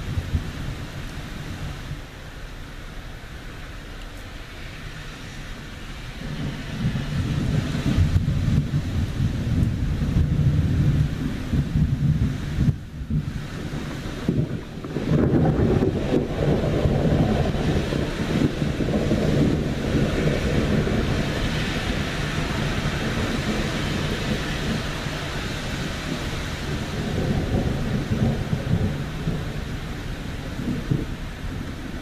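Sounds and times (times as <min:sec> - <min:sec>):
rolling thunder rumble: 0:00.0 - 0:02.1, 0:05.6 - 0:32.0
steady rain hiss: 0:00.0 - 0:32.0.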